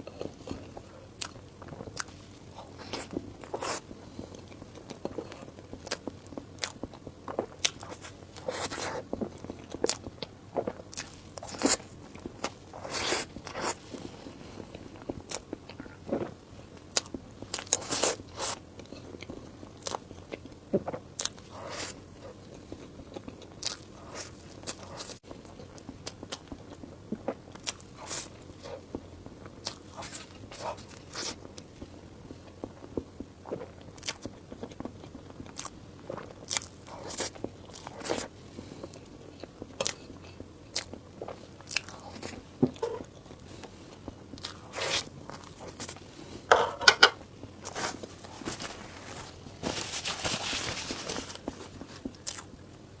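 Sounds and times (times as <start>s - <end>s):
person chewing crunchy food: 0.0s - 31.4s, 32.6s - 52.9s.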